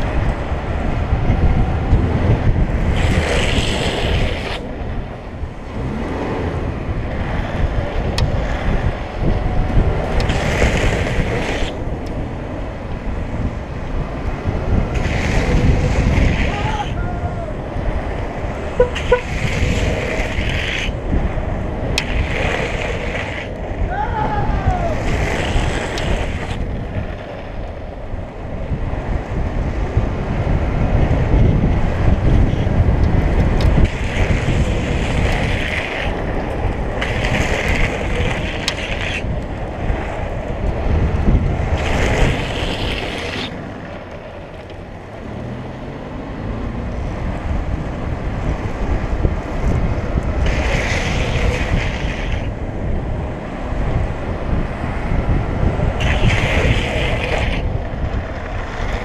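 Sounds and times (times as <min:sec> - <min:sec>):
wheels sliding on asphalt: 0:00.0 - 0:59.0
wind rushing on microphone: 0:00.0 - 0:59.0.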